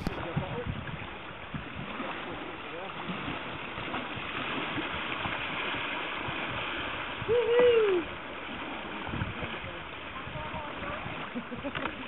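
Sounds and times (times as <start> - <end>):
river water rushing over riffle: 0.0 - 0.2, 0.9 - 12.0
paddle splashes: 0.0 - 12.0.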